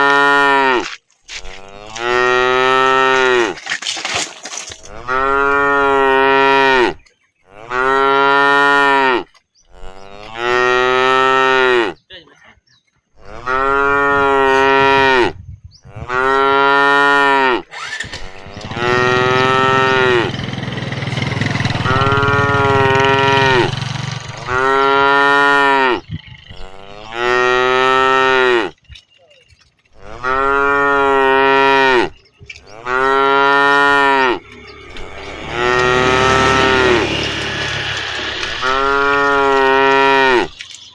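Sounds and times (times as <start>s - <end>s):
cows mooing: 0.0s - 3.6s, 4.6s - 12.0s, 13.2s - 15.4s, 16.0s - 29.1s, 29.8s - 40.9s.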